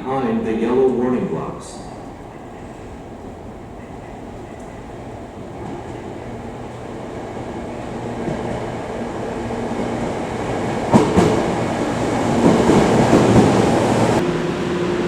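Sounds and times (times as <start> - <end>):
train pulling in: 0.0 - 15.0
wheels clacking over rail joints: 1.9 - 14.2.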